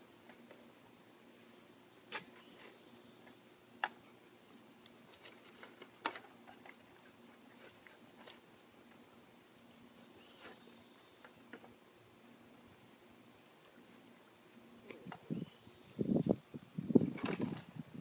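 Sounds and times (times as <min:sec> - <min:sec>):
dogs nosing in grass: 0:00.9 - 0:15.8.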